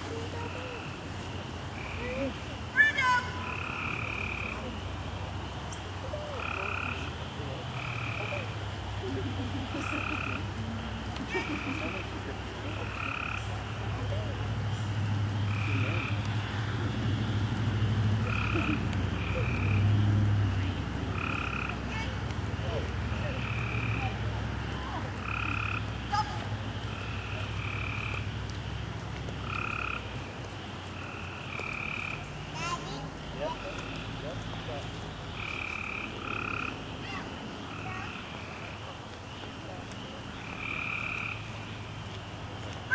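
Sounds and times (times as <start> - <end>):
frogs croaking: 0.0 - 42.9.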